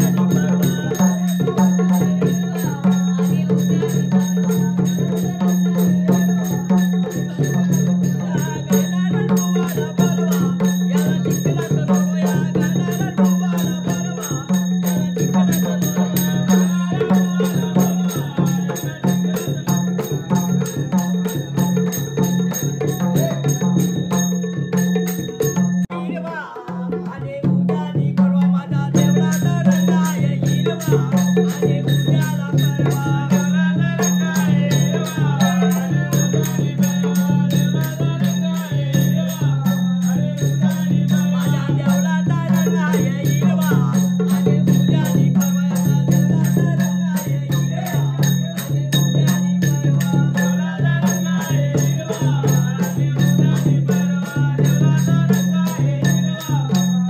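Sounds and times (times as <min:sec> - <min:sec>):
hand drum beating: 0:00.0 - 0:57.0
jingling metal percussion: 0:00.0 - 0:57.0
voices singing: 0:00.0 - 0:57.0.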